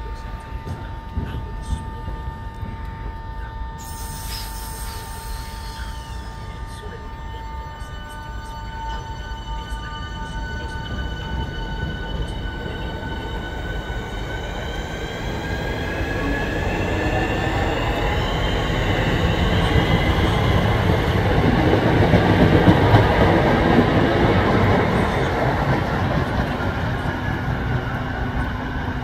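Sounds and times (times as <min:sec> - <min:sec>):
train traction motors whining: 0:00.0 - 0:29.0
wheels rumbling on rail: 0:00.0 - 0:29.0.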